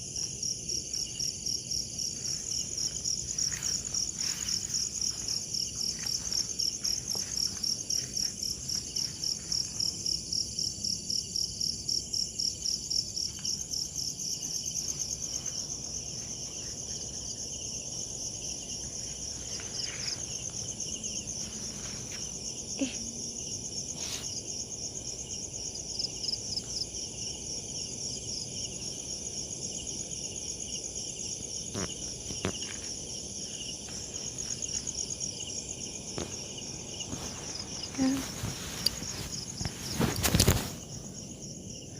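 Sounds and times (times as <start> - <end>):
insects chirping: 0.0 - 41.9.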